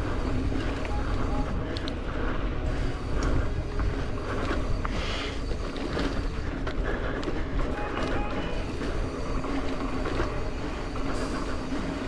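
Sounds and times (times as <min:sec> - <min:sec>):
bike clicks and rattles: 0:00.0 - 0:12.0
bike tyres rumbling on dirt: 0:00.0 - 0:12.0.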